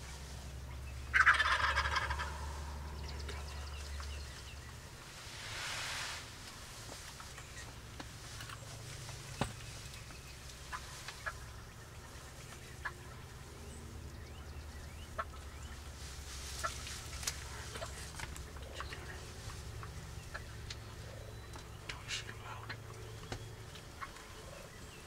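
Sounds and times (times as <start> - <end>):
turkeys clucking and gobbling: 0.0 - 5.0, 6.0 - 25.0
low steady rumble: 0.0 - 25.0.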